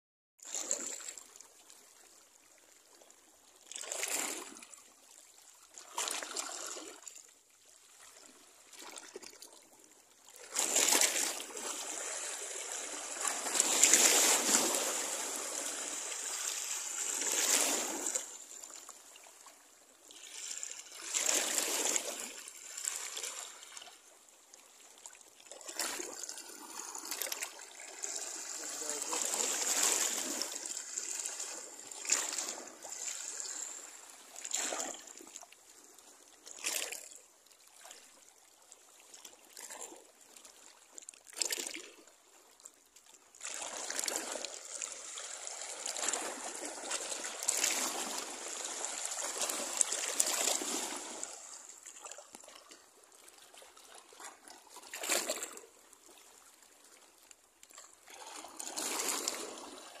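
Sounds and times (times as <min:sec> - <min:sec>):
small waves splashing: 0:00.4 - 1:00.0.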